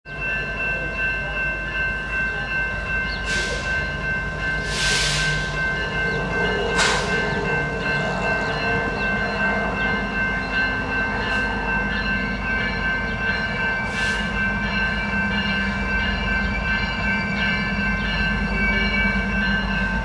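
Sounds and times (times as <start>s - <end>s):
diesel locomotive rumble: 0.1s - 20.0s
high ringing tones: 0.1s - 20.0s.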